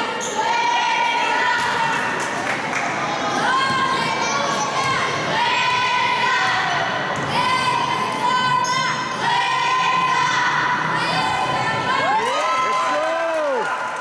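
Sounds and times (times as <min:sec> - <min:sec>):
crowd noise: 0:00.0 - 0:14.0.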